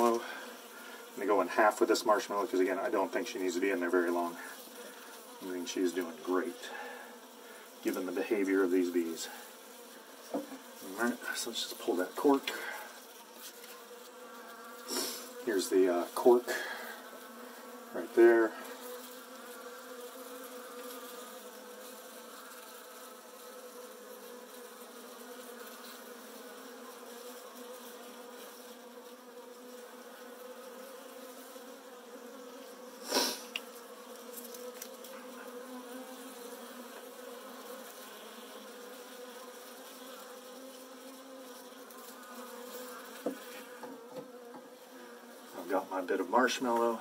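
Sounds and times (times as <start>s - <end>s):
bees buzzing: 0.0s - 47.0s.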